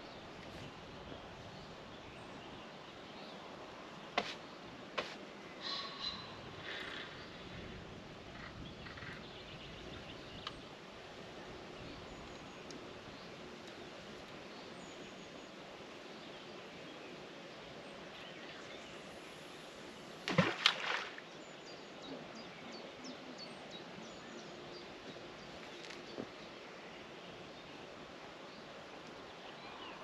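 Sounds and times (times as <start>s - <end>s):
riverbank ambience: 0.0s - 30.0s.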